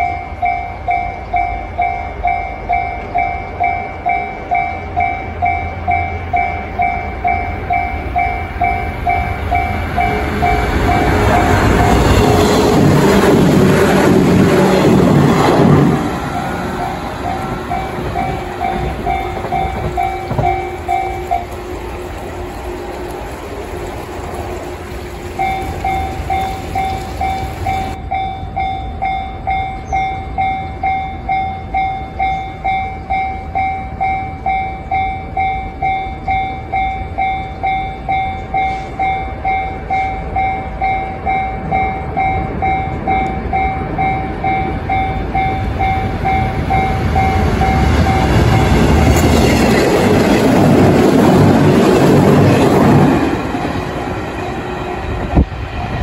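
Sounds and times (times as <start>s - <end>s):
level-crossing warning bell ringing: 0.0s - 22.6s, 24.7s - 56.0s
electric train running past: 0.0s - 56.0s.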